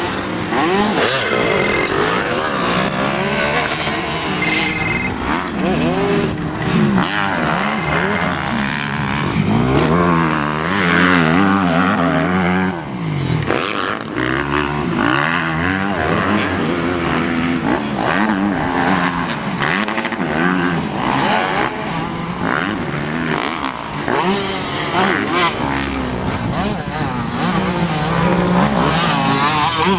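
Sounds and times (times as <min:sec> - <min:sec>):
motocross engine revving: 0:00.0 - 0:29.9.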